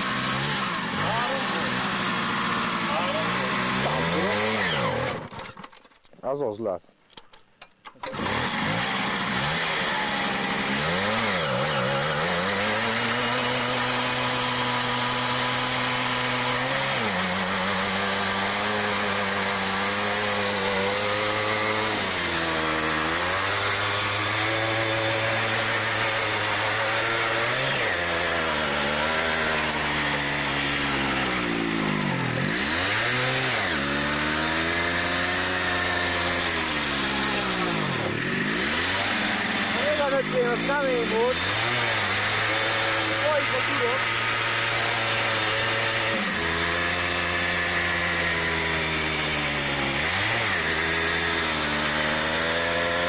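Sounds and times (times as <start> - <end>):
moped engine revving: 0.0 - 5.7, 8.0 - 53.0.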